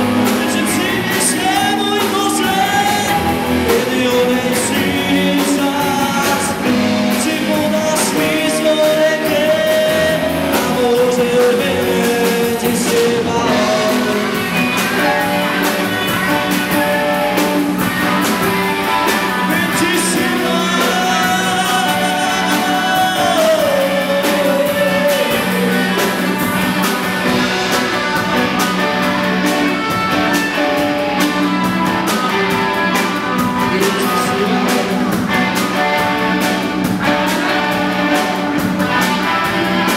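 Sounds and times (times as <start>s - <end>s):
rock song with singer: 0.0s - 39.9s.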